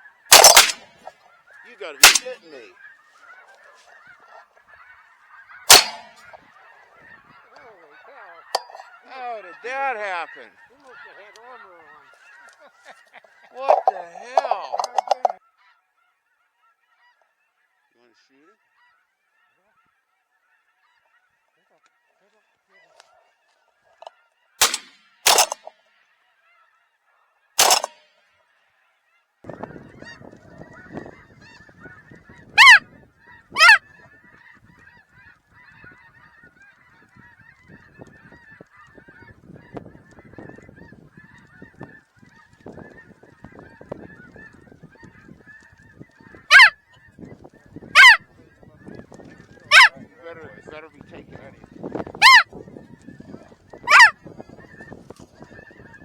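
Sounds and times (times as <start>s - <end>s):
flock of geese chattering: 0.0s - 56.0s
loud wavering goose calls: 0.0s - 56.0s
snow geese honking: 0.0s - 56.0s.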